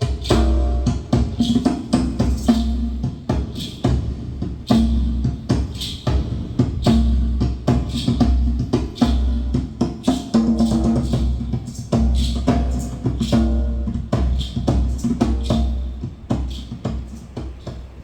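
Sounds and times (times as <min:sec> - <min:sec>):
drum music over loudspeakers: 0:00.0 - 0:18.0.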